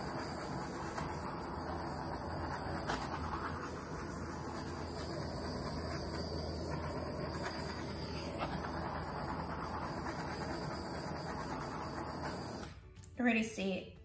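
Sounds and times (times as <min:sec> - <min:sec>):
torch flame hissing: 0:00.0 - 0:12.9.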